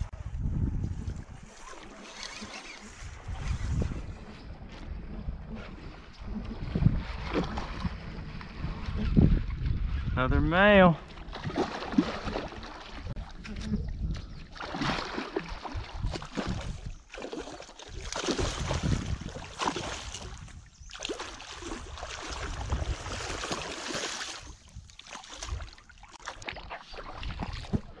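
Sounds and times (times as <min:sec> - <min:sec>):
fish thrashing in shallow water: 0:01.2 - 0:10.0, 0:11.0 - 0:28.0.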